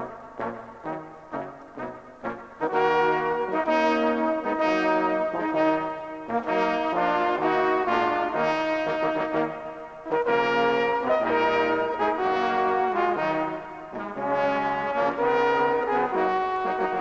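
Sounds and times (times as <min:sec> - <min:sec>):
brass ensemble playing chords: 0:00.0 - 0:17.0.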